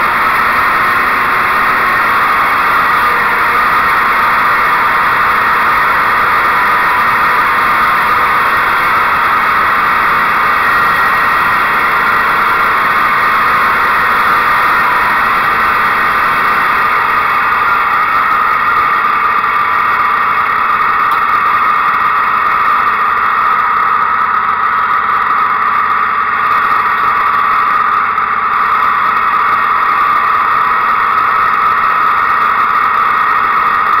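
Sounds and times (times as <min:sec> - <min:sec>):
small gas engine blower: 0:00.0 - 0:34.0.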